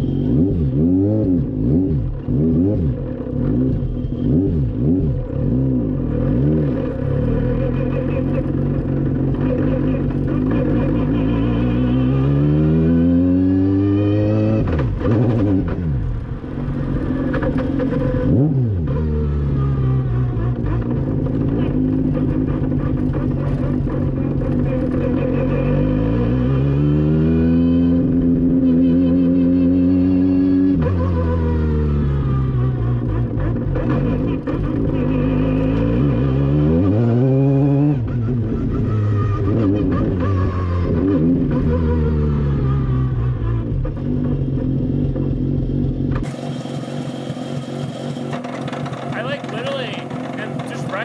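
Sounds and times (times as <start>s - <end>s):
rotary race car engine revving: 0.0s - 51.0s.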